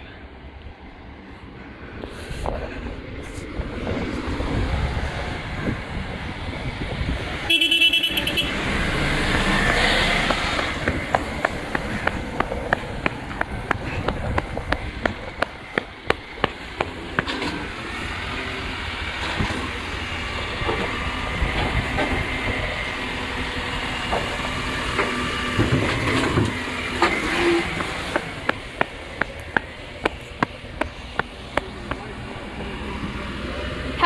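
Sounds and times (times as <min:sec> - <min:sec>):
rubbish truck hissing and whining: 0:01.9 - 0:34.0.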